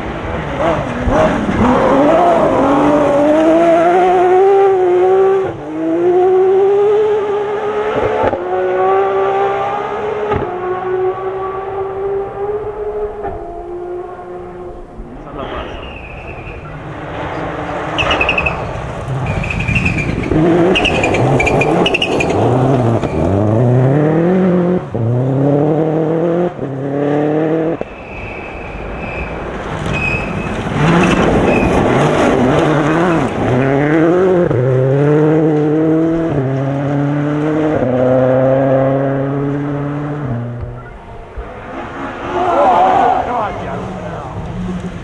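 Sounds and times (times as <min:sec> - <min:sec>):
rally car engines accelerating: 0:00.0 - 0:45.0.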